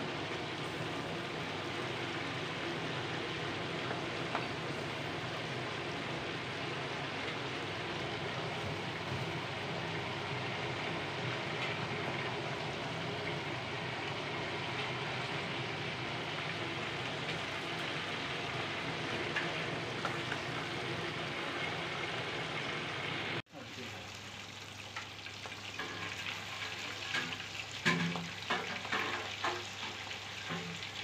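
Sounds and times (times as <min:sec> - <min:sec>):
chicken frying in bubbling oil: 0:00.0 - 0:31.0.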